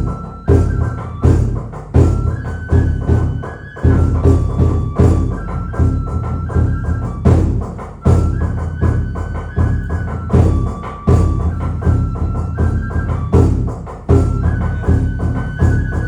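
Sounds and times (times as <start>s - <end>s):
bamboo flute: 0.0s - 16.0s
deep drum beats: 0.0s - 16.0s.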